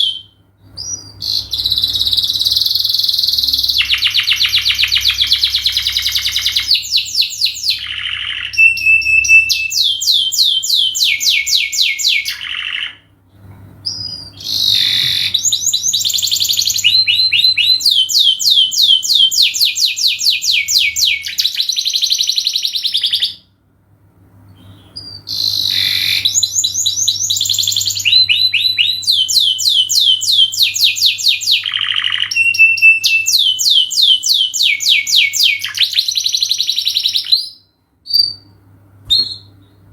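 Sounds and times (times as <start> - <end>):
canary singing trills: 0.0 - 13.1, 13.8 - 23.5, 24.6 - 39.8
faint low hum: 0.0 - 39.9.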